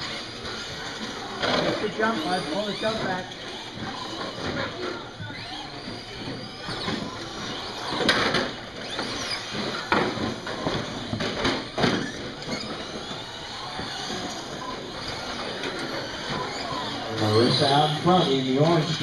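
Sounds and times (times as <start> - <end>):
toy truck motor whine: 0.0 - 19.0.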